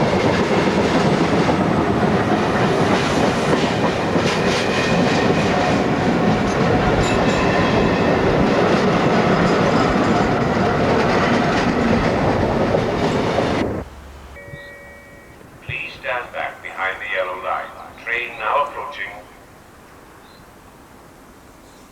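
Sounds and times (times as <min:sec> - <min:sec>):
steam train running on rails: 0:00.0 - 0:21.6.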